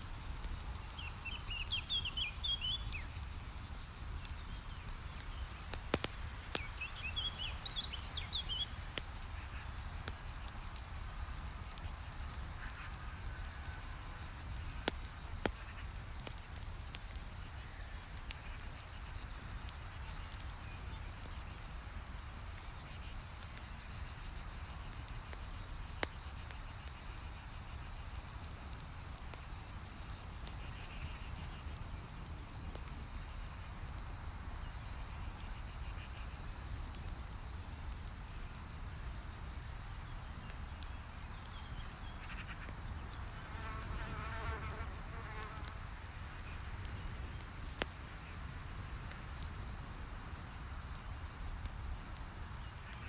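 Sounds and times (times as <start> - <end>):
campfire crackling and popping: 0.0 - 53.0
insects buzzing: 0.0 - 53.0.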